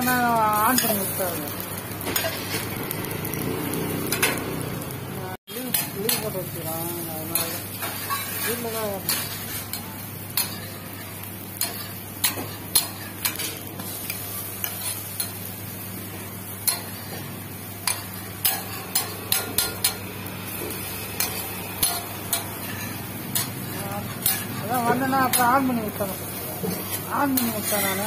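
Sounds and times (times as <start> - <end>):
metal spatula scraping griddle: 2.0 - 4.6, 5.6 - 15.4, 16.1 - 28.0.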